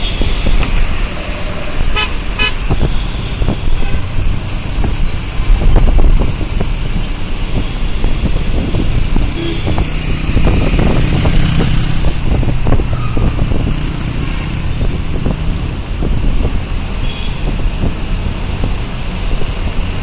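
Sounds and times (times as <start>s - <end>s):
vehicle road noise rumble: 0.0s - 20.0s
wind buffeting the microphone: 0.0s - 20.0s.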